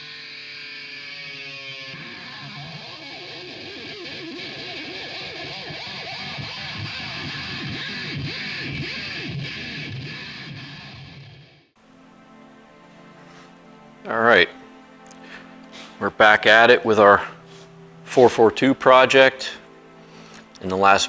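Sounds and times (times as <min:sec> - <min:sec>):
electric guitar music: 0:00.0 - 0:21.0.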